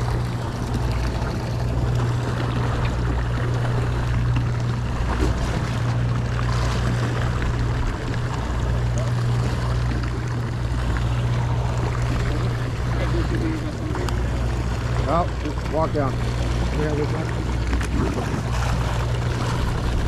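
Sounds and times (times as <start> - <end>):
boat engine humming: 0.0 - 20.0
water washing: 0.0 - 20.0.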